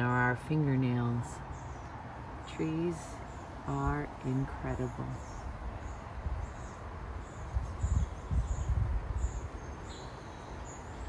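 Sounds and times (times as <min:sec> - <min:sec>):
bird chirping: 0:00.8 - 0:11.0.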